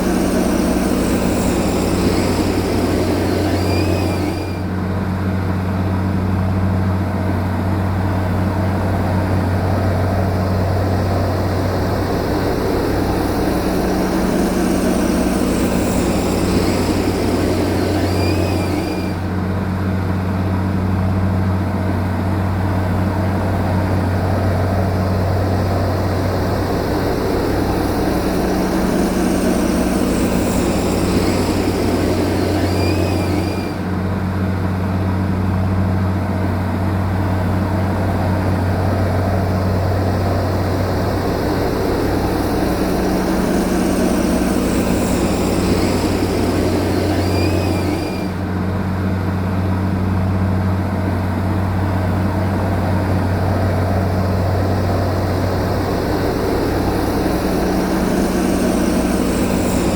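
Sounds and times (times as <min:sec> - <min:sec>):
heavy diesel engine droning: 0:00.0 - 0:59.9.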